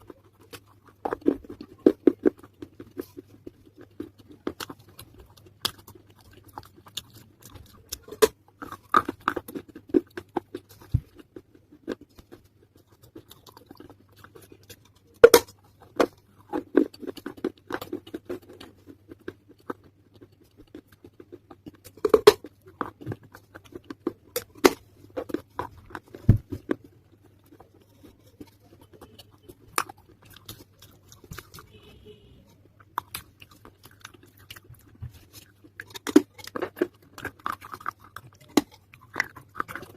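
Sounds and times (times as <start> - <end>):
clay pieces crunching in bites: 0.0 - 31.8, 32.5 - 39.9
wet chewing: 0.0 - 39.9.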